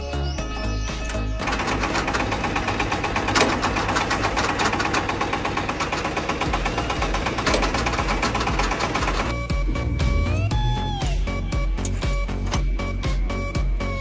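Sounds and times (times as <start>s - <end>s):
farm machine gearbox clatter: 0.6s - 11.2s, 11.8s - 12.9s.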